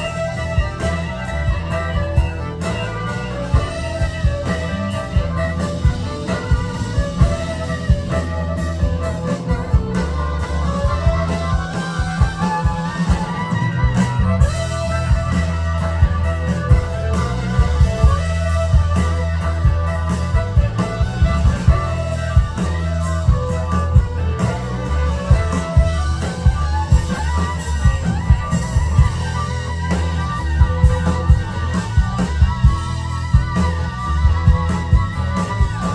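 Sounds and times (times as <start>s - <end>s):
bass guitar: 0.0s - 35.9s
drum kit: 0.0s - 35.9s
electric guitar: 0.0s - 35.9s.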